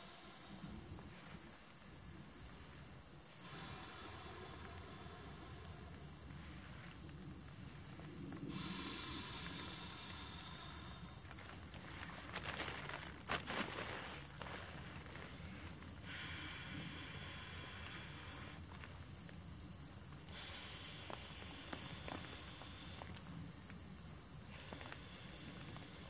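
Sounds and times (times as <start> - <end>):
insects high-pitched trill: 0.0 - 26.0
lower insect chorus: 0.0 - 26.0.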